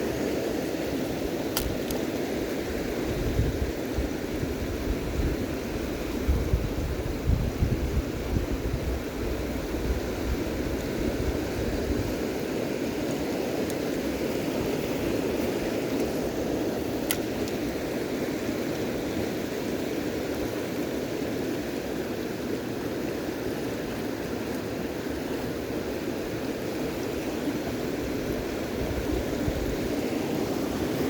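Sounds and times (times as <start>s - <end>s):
river water rushing: 0.0s - 7.2s, 8.0s - 31.0s.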